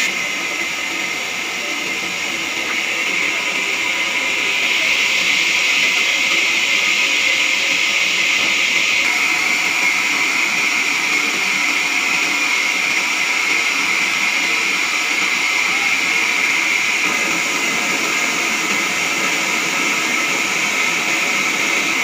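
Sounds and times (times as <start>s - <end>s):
sawmill machinery whirring: 0.0s - 22.0s.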